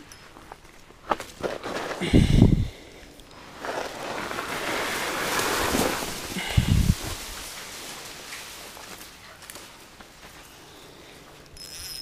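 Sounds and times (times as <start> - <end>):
grass rustling against microphone: 0.0 - 12.0.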